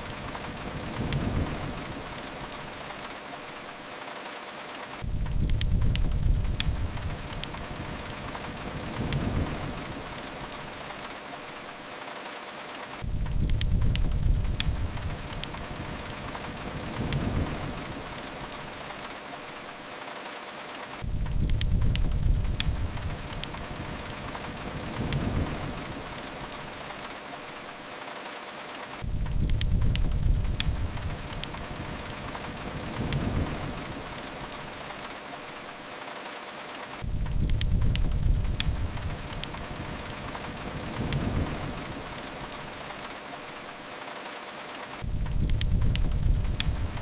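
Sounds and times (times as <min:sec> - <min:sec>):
rain on a window: 0:00.0 - 0:47.0
wood fire crackles: 0:00.0 - 0:47.0.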